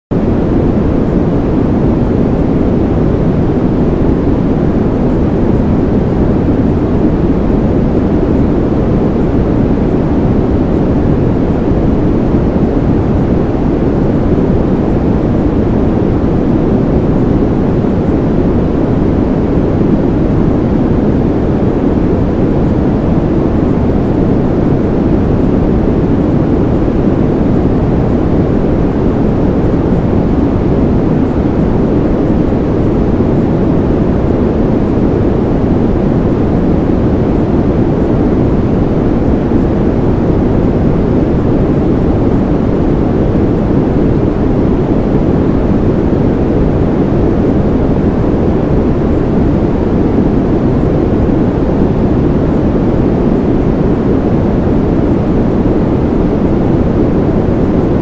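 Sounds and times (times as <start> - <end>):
steady low rumble: 0.1 - 58.0.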